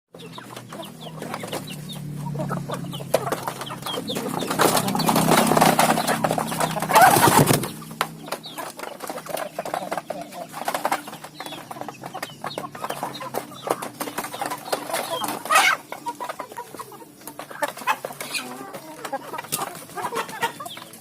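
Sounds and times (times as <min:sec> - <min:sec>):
chicks chirping: 0:00.1 - 0:21.0
chickens pecking taps: 0:00.2 - 0:21.0.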